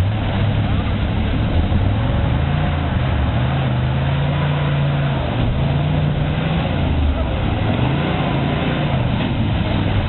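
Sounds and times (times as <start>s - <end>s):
off-road vehicle engine running hard: 0.0s - 10.0s.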